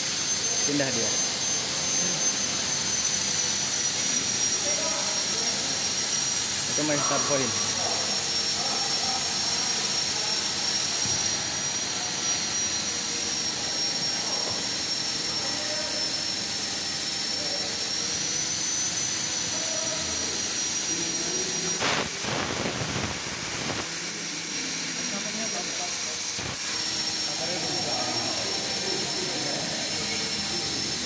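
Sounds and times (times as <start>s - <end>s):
thin high whine: 0.0s - 31.0s
laser cutter whooshing hiss: 0.2s - 31.0s.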